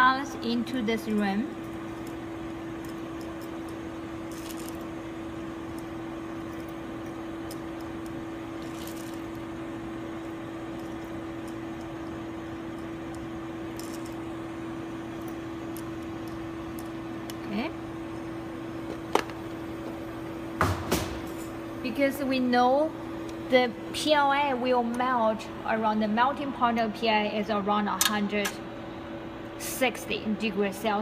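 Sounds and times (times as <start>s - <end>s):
machine hum with strong tone: 0.0s - 31.0s.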